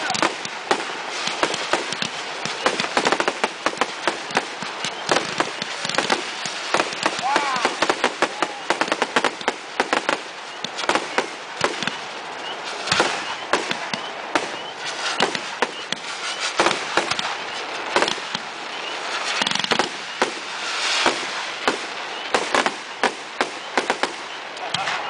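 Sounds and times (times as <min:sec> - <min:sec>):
fireworks bangs and crackling: 0:00.0 - 0:25.0
hiss of burning fireworks: 0:00.0 - 0:25.0.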